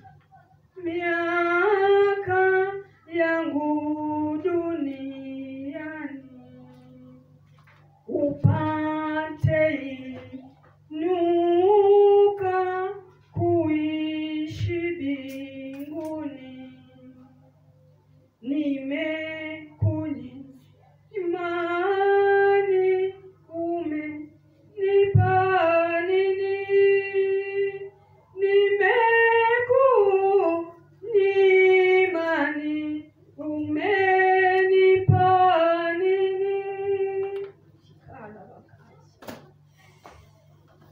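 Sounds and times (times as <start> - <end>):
woman singing unaccompanied: 0.0 - 7.4, 8.0 - 17.5, 18.4 - 37.6.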